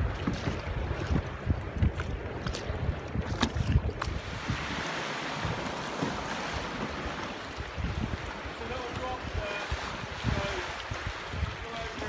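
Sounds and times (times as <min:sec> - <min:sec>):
sea water lapping: 0:00.0 - 0:12.0
wind buffeting microphone: 0:00.0 - 0:12.0.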